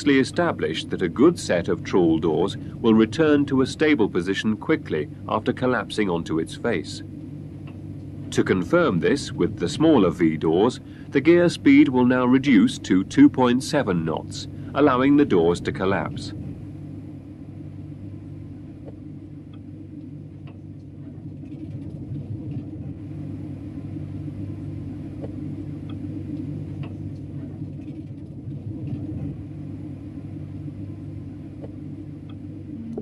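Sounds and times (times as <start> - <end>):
machinery rumble and hum: 0.0 - 33.0.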